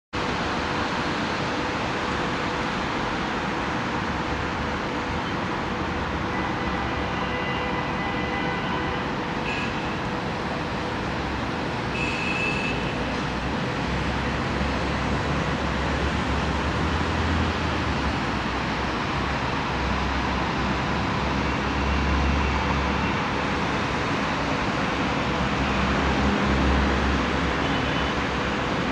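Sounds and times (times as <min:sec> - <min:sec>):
distant city traffic: 0:00.2 - 0:28.9.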